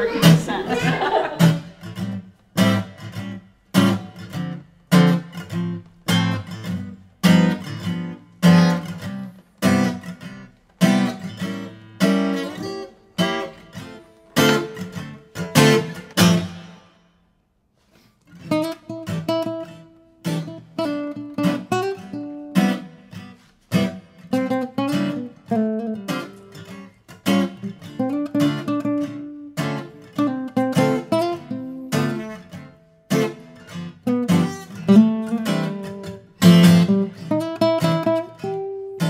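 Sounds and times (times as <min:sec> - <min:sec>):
acoustic guitar strumming: 0:00.0 - 0:17.0, 0:18.4 - 0:39.0.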